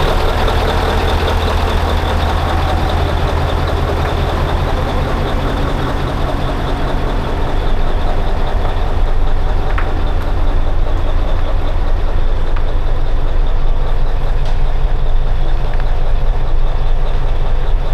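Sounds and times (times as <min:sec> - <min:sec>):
truck diesel engine idling: 0:00.0 - 0:17.9.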